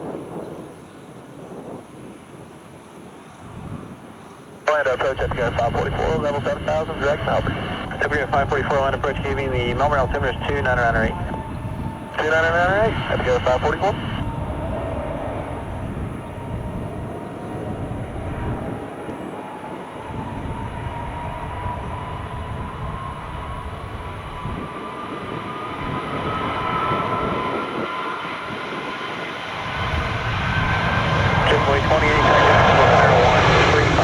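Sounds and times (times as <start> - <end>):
jet engines rumbling and whining: 4.6 - 34.0.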